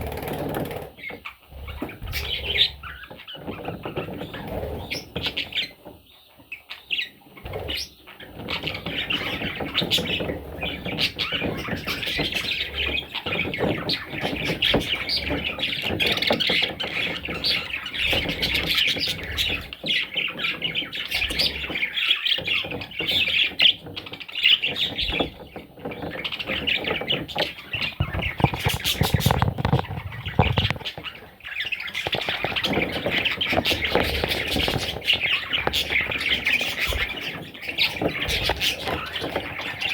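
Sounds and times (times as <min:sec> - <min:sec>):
budgerigars chattering: 0:01.0 - 0:39.9.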